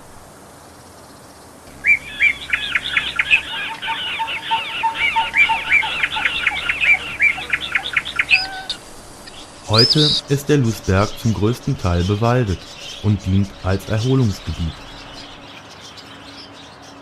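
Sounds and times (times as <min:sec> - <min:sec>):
songbird warbling: 0:01.7 - 0:16.9.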